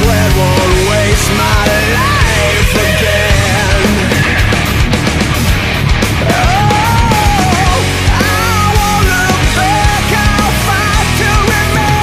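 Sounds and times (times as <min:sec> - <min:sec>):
driving drum beat: 0:00.0 - 0:12.0
heavy rock music: 0:00.0 - 0:12.0
sliding melodic lead line: 0:00.0 - 0:12.0.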